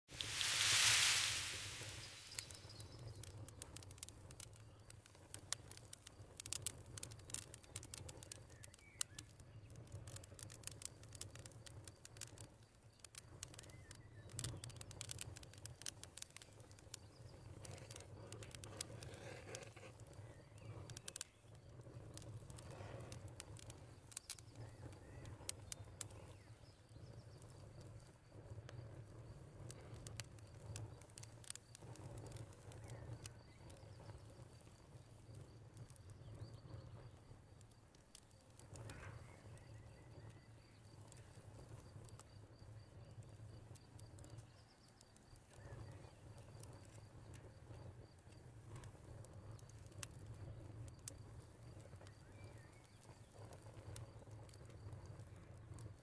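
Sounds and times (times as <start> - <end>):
light ticks and crackles: 0.1 - 56.0.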